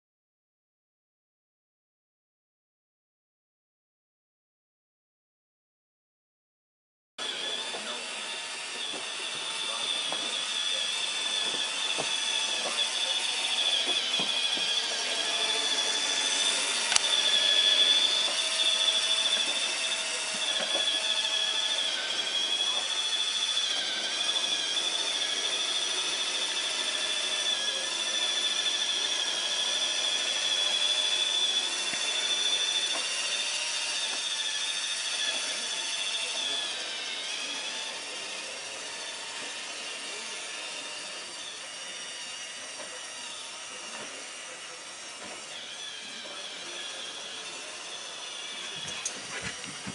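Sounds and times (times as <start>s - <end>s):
robot vacuum whine: 7.2s - 49.9s.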